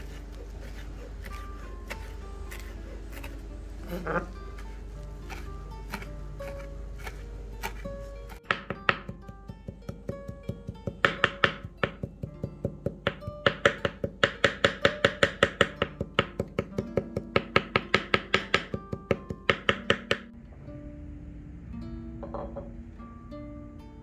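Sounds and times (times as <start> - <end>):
knife chopping on wooden board: 0.0 - 20.3
plucked guitar background music: 0.6 - 24.0.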